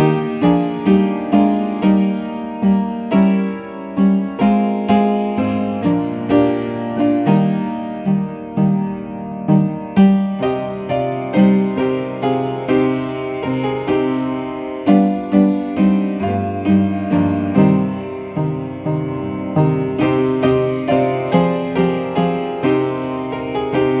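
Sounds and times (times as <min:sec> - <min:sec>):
piano playing a hymn tune: 0:00.0 - 0:24.0.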